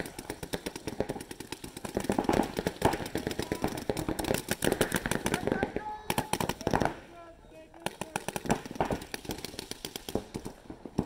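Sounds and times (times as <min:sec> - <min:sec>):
paintball markers firing rapidly: 0:00.0 - 0:07.0, 0:07.8 - 0:11.0.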